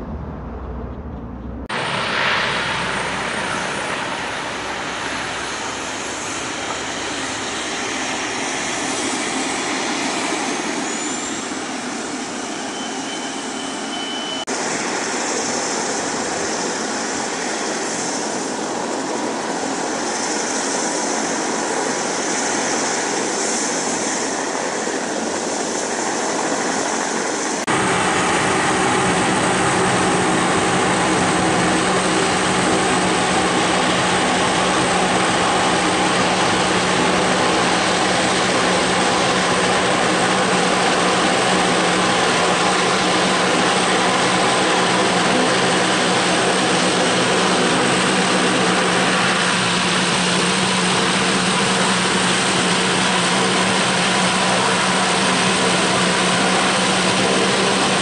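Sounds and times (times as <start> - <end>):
airplane engine drone: 0.0 - 58.0
airplane engines rushing: 0.0 - 58.0.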